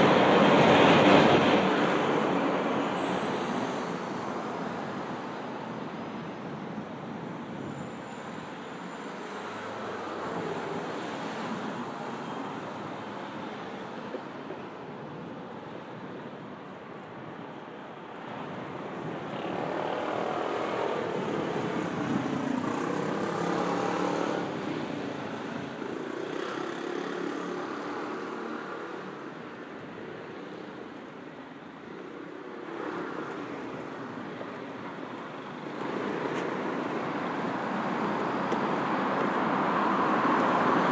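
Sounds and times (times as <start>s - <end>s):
road traffic passing: 0.0s - 40.9s.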